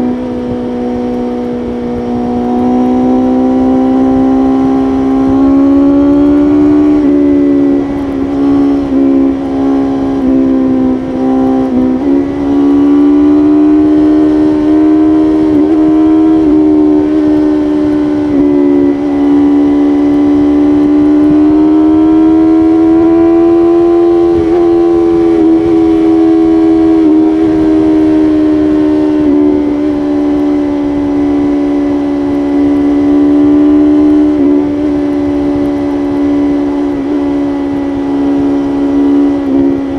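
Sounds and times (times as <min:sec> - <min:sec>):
motorcycle engine at high revs: 0:00.0 - 0:39.9
wind noise: 0:00.0 - 0:39.9.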